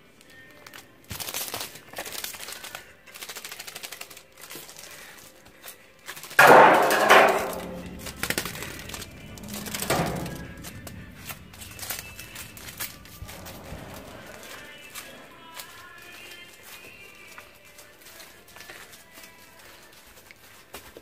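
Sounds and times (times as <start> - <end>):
sticky tape crackling on concrete: 0.2 - 21.0.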